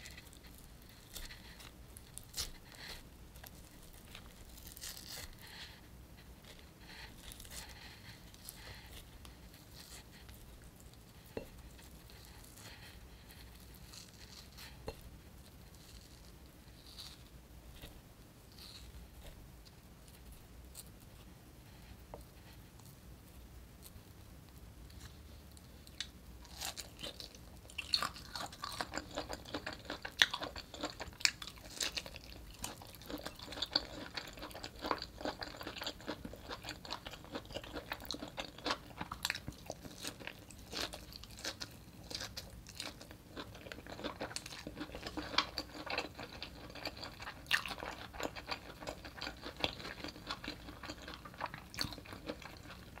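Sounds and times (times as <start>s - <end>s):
chewing crunchy leaves: 0.0s - 5.8s, 6.5s - 15.1s, 15.7s - 18.0s, 25.9s - 53.0s.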